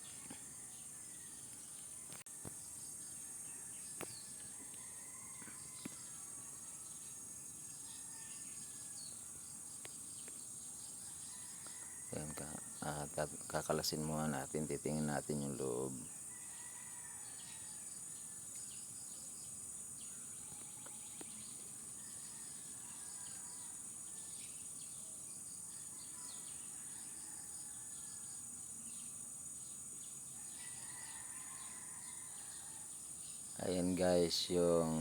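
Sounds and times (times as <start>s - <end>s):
insect drone: 0.0s - 35.0s.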